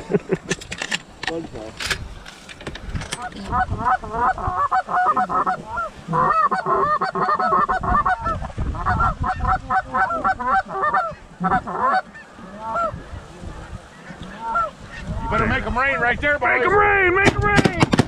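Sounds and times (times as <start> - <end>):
geese honking and clucking: 3.2 - 17.9.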